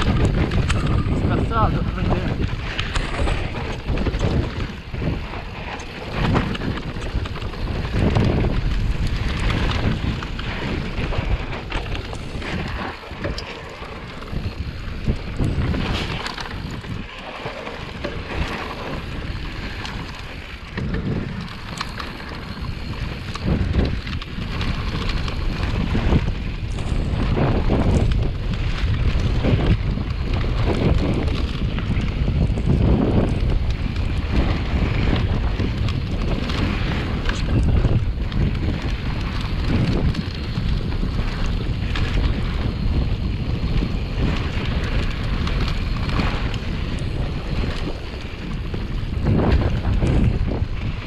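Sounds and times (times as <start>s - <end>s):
bike knocks and rattles: 0.0s - 51.0s
bike tyres rolling on dirt: 0.0s - 51.0s
wind buffeting the microphone: 0.0s - 51.0s.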